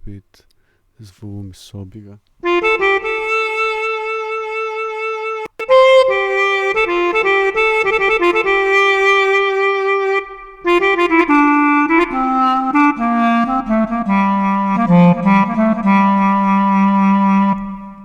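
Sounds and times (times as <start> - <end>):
sampled clarinet melody: 2.4 - 18.0.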